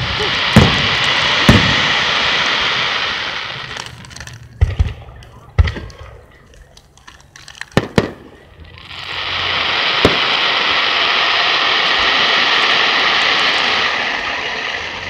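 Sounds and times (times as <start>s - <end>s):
firework bangs: 0.0s - 6.3s, 7.1s - 15.0s
fireworks hissing crackle: 0.0s - 15.0s.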